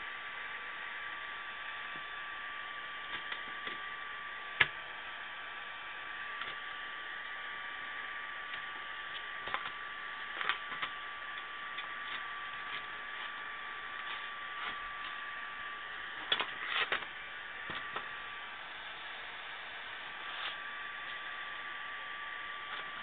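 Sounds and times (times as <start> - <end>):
thin constant whine: 0.0 - 23.0
steady hiss: 3.0 - 23.0.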